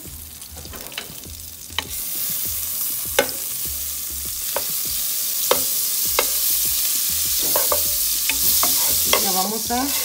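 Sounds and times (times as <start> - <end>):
butter sizzling in a pot: 0.0 - 10.0.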